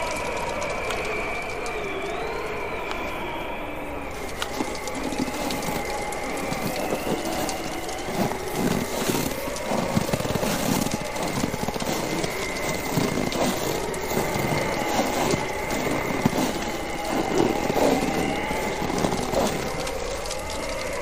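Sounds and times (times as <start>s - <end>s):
bonfire crackling and popping: 0.0s - 21.0s
wind whistling: 0.0s - 21.0s.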